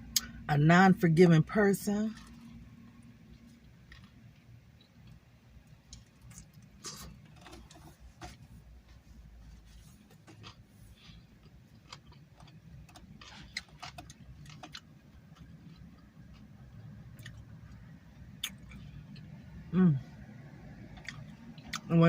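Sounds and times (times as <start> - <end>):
low steady hum: 0.0 - 22.0
person chewing food: 2.2 - 19.4, 20.8 - 21.9.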